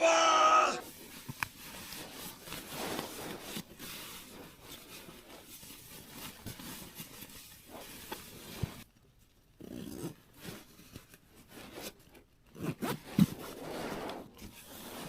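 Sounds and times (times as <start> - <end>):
faint rustling and scraping: 0.8 - 15.0.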